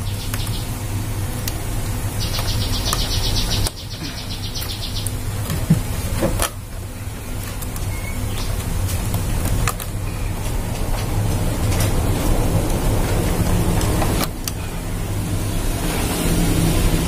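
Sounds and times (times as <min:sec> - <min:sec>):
rapid pulsing high buzz: 0:00.0 - 0:17.0
steady low rumble: 0:00.0 - 0:17.0.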